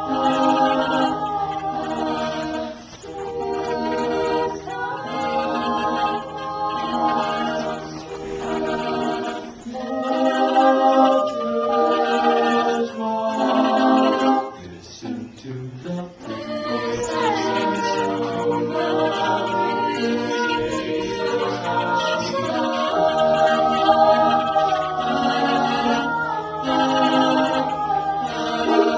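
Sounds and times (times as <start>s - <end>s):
a cappella group singing: 0.0s - 28.9s.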